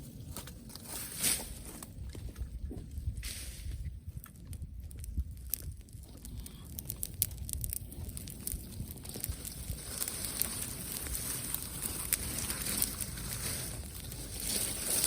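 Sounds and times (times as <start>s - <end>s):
wood fire crackling and popping: 0.0s - 15.0s
fire hissing: 2.9s - 15.0s.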